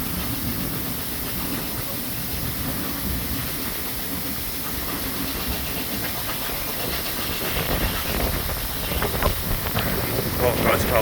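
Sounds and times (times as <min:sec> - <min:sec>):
carriages rumbling: 0:00.0 - 0:11.0
steam train hissing: 0:00.0 - 0:11.0.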